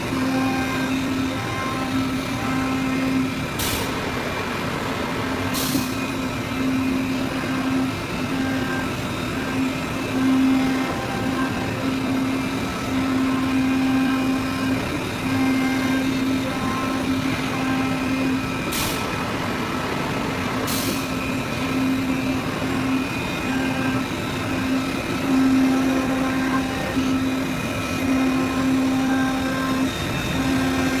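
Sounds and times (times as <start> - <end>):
cutting machine running: 0.0 - 31.0.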